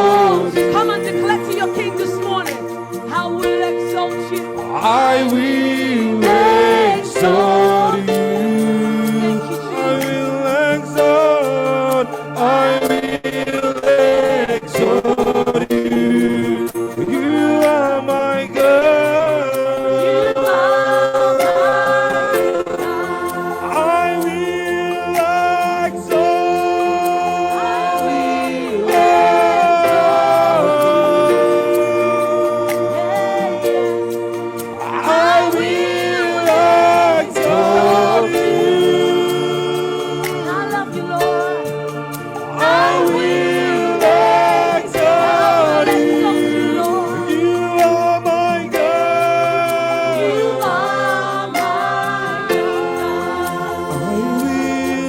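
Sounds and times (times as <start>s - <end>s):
singers holding wordless notes: 0.0s - 55.0s
sustained background music: 0.0s - 55.0s.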